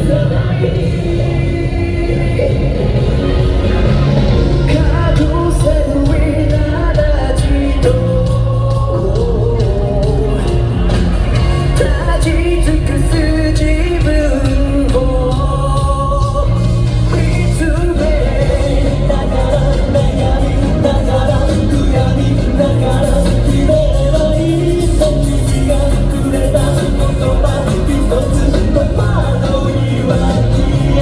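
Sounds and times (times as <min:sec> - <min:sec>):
lead vocalist singing: 0:00.0 - 0:31.0
rock band playing: 0:00.0 - 0:31.0.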